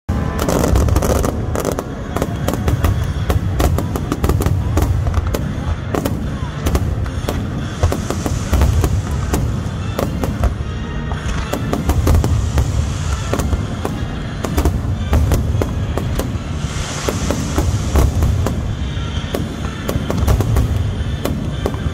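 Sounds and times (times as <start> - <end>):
fireworks shells bursting: 0.2 - 21.9.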